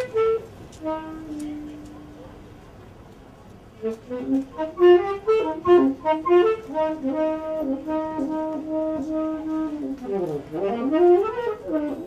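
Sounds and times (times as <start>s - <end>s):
wind instrument playing jazzy melody: 0.0s - 2.7s, 3.6s - 12.0s.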